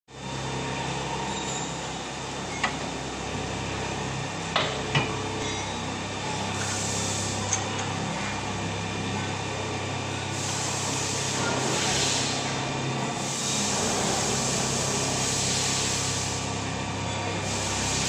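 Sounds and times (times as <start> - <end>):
factory machinery humming: 0.1 - 18.0.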